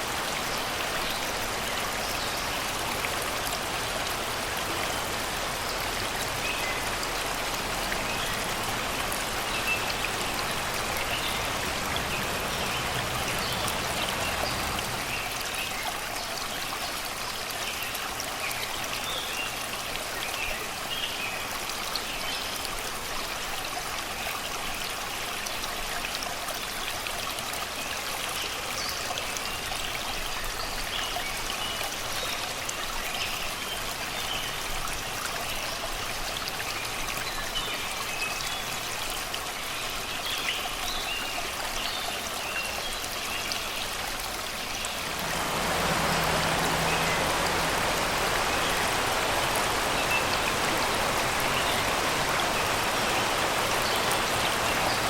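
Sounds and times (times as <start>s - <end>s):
river babbling over rocks: 0.0s - 55.0s.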